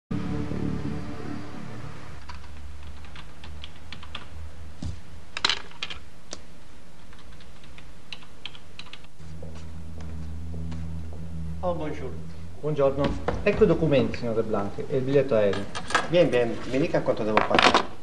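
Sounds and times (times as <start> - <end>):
low steady hum: 0.1 - 17.5.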